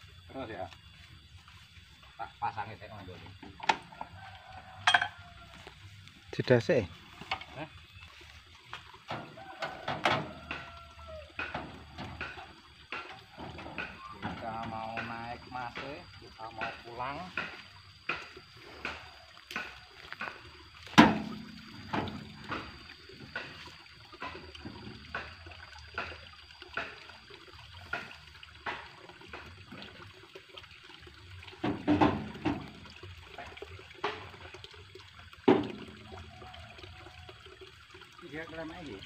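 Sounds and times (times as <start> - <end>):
water trickling in ditch: 0.0 - 39.0.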